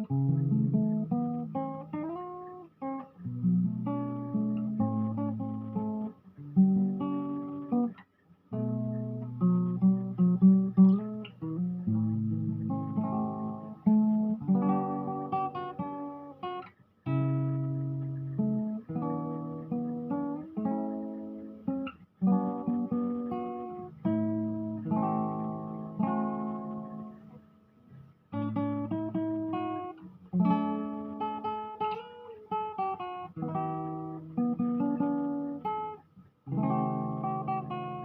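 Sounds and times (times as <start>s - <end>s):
fingerstyle acoustic guitar: 0.0s - 38.0s.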